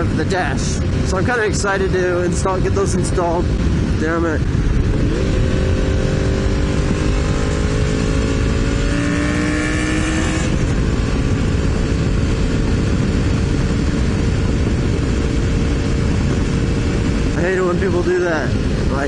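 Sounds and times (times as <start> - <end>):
motorcycle engine accelerating: 0.0 - 19.0
wind rumble on microphone: 0.0 - 19.0.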